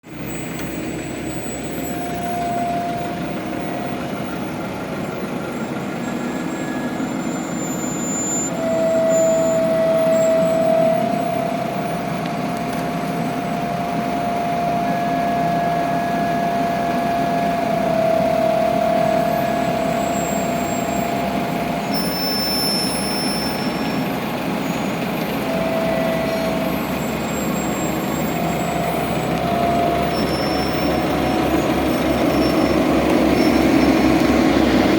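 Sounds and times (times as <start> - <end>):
heavy diesel machinery running: 0.0 - 34.9
high machine whine: 0.2 - 34.9.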